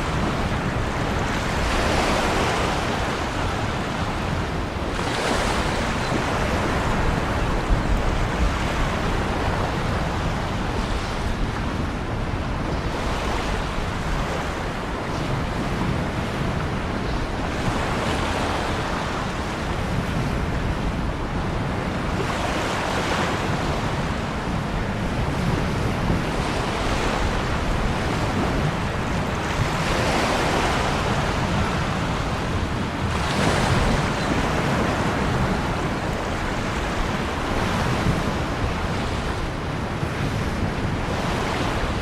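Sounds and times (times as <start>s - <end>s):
ocean waves breaking on shore: 0.0s - 42.0s.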